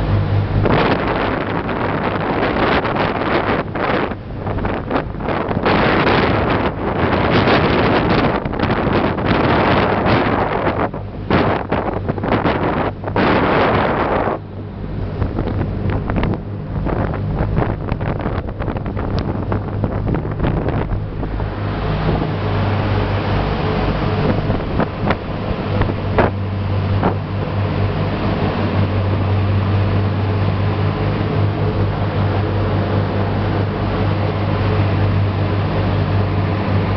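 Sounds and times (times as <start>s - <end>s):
rush of ship's wake: 0.0s - 36.9s
ship engines humming: 0.0s - 36.9s
wind buffeting microphone: 0.0s - 36.9s.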